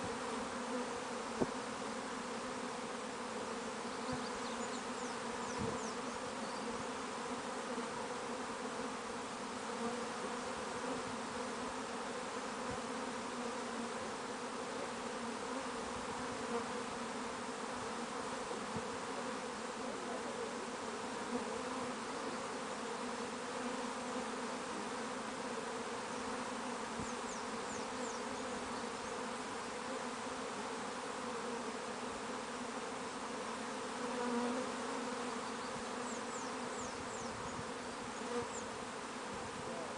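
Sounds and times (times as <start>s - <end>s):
honeybee swarm buzzing: 0.0s - 39.9s.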